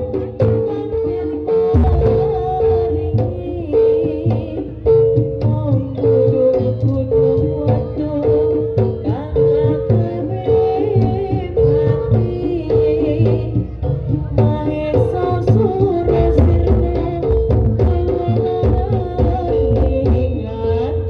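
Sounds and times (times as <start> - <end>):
hand drums beating: 0.0 - 21.0.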